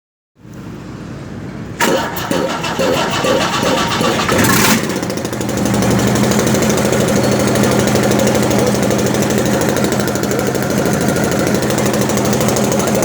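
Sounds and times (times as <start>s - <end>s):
diesel truck engine idling: 1.2s - 13.0s.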